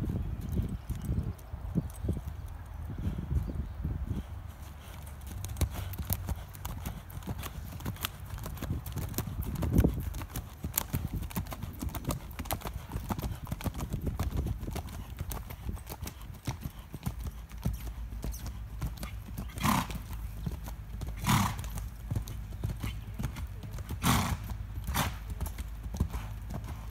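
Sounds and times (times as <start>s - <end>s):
hoofbeats on sand: 2.0s - 26.9s.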